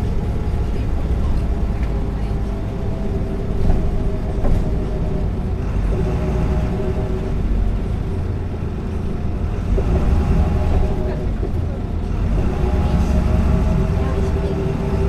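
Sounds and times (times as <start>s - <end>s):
diesel bus engine rumble: 0.0s - 15.0s.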